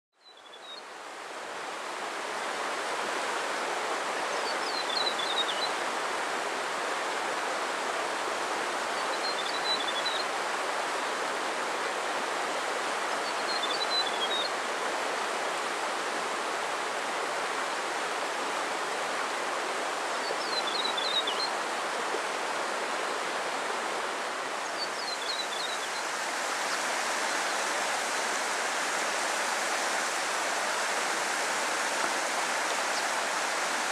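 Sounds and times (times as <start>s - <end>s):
rushing mountain stream: 0.2s - 33.9s.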